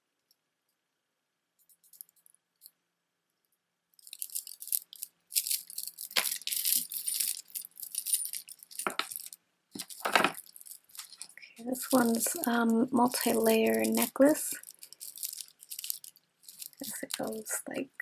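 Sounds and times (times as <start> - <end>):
stone beads clicking and rattling: 1.6 - 2.7, 4.0 - 17.6.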